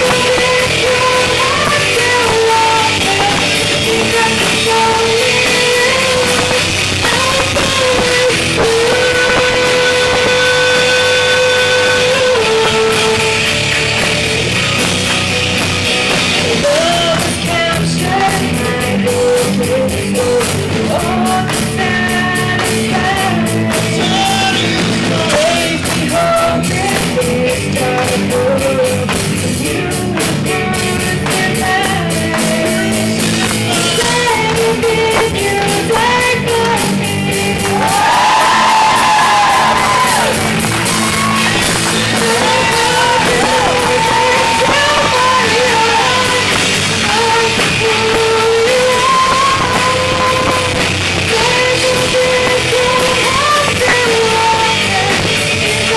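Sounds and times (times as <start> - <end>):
drums: 0.0 - 55.9
guitar: 0.0 - 55.9
lead singer singing: 0.0 - 55.9
rock band playing: 0.0 - 55.9.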